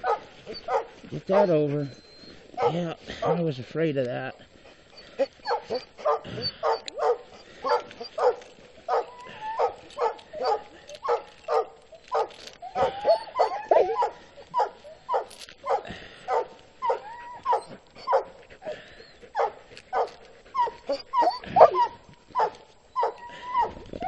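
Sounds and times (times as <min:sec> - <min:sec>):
dogs whining: 0:00.0 - 0:03.5, 0:04.9 - 0:24.0
sled dogs barking and yipping: 0:00.0 - 0:24.0.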